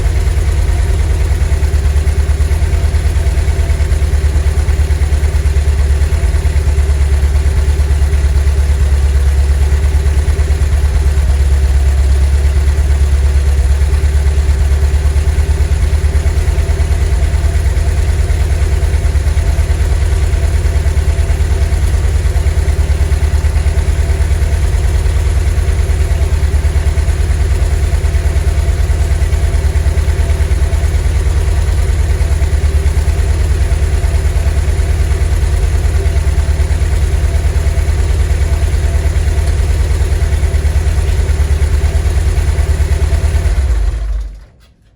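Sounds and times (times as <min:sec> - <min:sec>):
van engine idling: 0:00.0 - 0:44.4.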